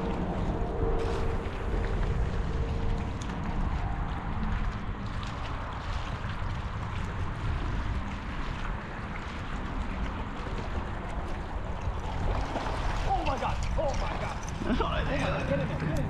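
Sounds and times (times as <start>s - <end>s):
wind buffeting microphone: 0.0s - 16.0s
waves lapping on rocks: 1.0s - 16.0s.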